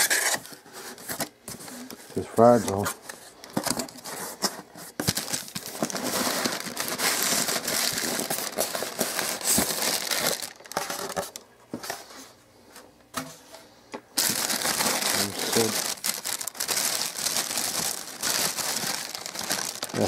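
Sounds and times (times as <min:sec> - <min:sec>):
plastic wrapping crinkling: 0:00.0 - 0:11.4, 0:14.2 - 0:20.0.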